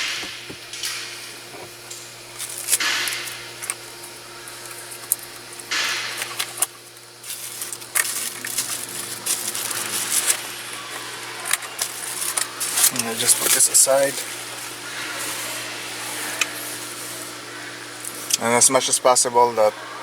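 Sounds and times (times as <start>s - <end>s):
rustling and scraping: 0.0s - 18.5s
faint steady hum: 0.0s - 20.0s.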